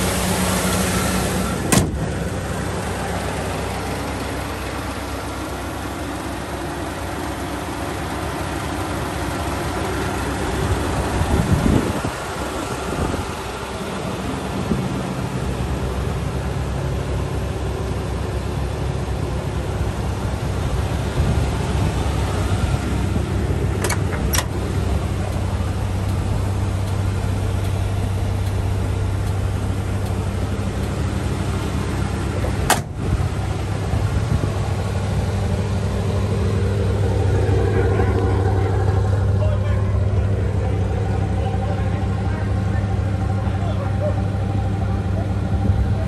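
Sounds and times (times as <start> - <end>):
truck engine running: 0.0 - 46.0.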